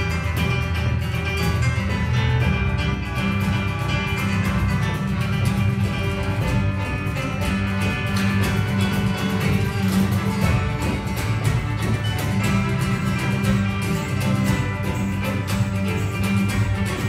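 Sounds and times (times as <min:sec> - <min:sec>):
acoustic guitar strumming: 0:00.0 - 0:17.0
keyboard: 0:00.0 - 0:17.0
sustained cello: 0:00.0 - 0:17.0
violin: 0:00.0 - 0:17.0.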